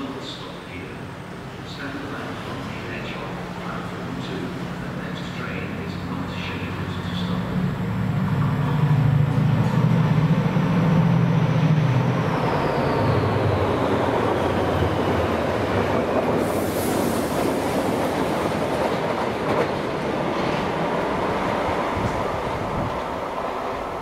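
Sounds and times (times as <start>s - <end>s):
wagon wheels rumbling on rail: 4.6s - 24.0s.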